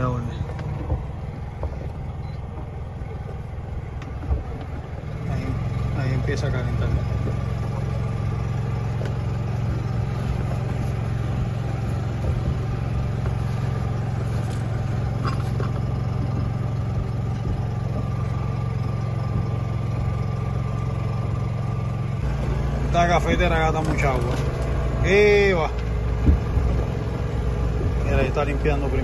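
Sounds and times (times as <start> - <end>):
boat machinery drone: 0.0 - 29.0.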